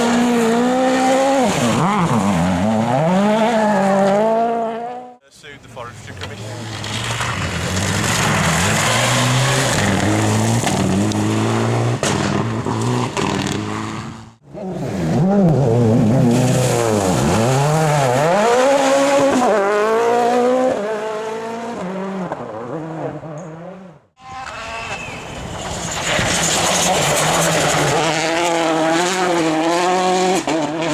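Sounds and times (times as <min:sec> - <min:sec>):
rally car engine revving: 0:00.0 - 0:05.2, 0:06.0 - 0:30.9.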